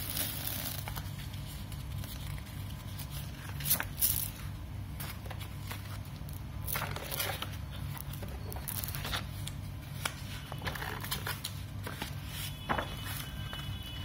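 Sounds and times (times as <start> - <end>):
paper pages turning: 0.0 - 13.7.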